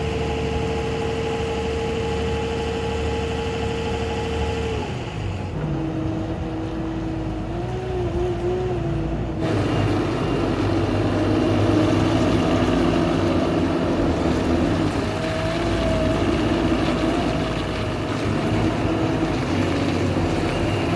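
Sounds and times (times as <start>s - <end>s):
forklift diesel engine running: 0.0s - 20.9s.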